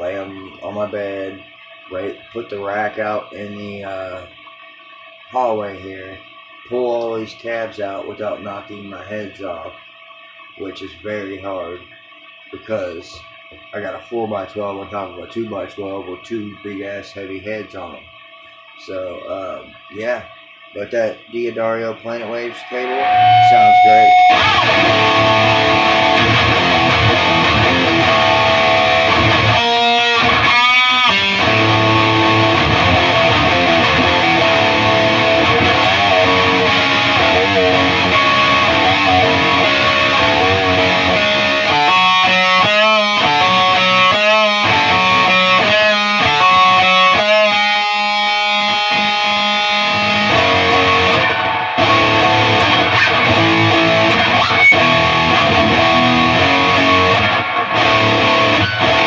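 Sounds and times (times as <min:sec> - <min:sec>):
distorted electric guitar riffs: 0:00.0 - 0:09.7, 0:18.8 - 0:59.0.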